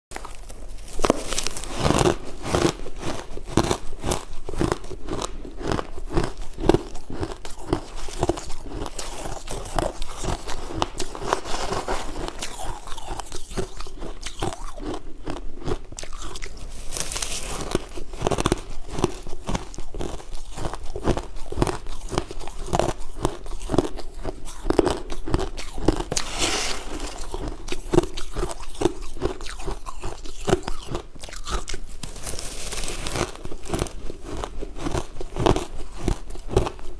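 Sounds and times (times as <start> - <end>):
chewing crunchy frost: 0.1 - 36.9.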